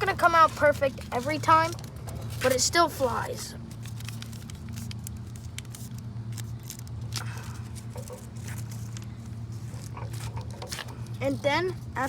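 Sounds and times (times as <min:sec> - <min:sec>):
paper crinkling and rustling: 0:00.0 - 0:12.0
steady low hum: 0:00.0 - 0:12.0.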